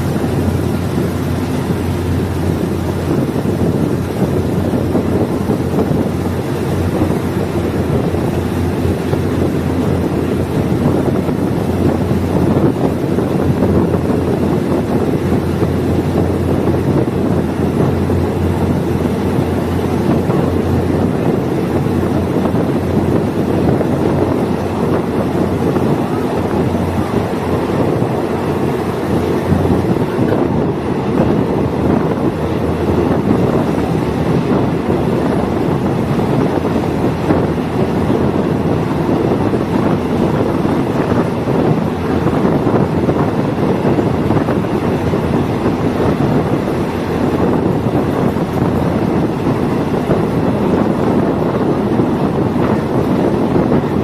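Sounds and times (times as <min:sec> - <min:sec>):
diesel train running: 0:00.0 - 0:54.0
wind buffeting microphone: 0:00.0 - 0:54.0.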